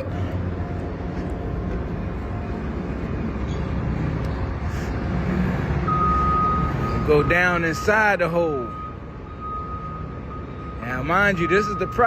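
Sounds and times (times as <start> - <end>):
engines and heavy machinery rumbling: 0.0 - 12.0.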